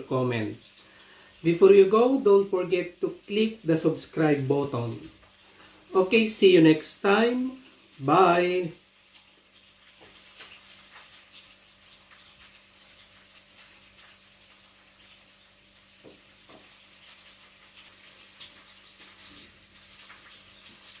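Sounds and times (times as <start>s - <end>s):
frying oil sizzling and popping: 0.0s - 21.0s.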